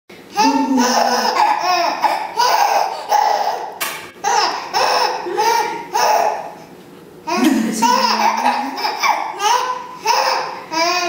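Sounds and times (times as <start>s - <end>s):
baby laughing: 0.4s - 6.6s, 7.3s - 11.0s.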